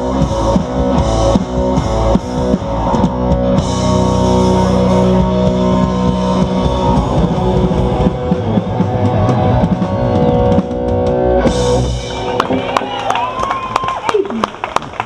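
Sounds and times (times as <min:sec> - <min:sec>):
drum kit: 0:00.0 - 0:13.6
electric guitars: 0:00.0 - 0:14.7.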